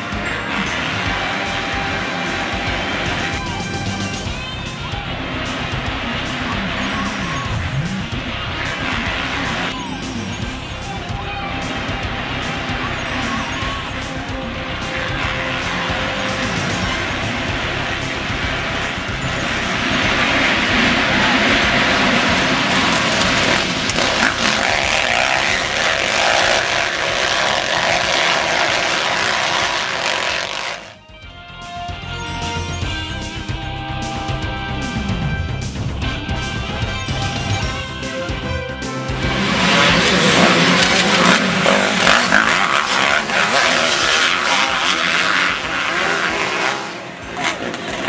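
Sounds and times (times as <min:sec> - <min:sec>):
dirt bike engines racing: 0:00.0 - 0:48.0.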